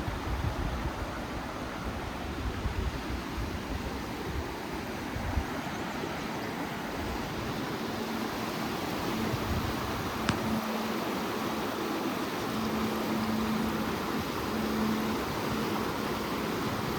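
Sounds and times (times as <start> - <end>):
creek water rushing: 0.0 - 16.9.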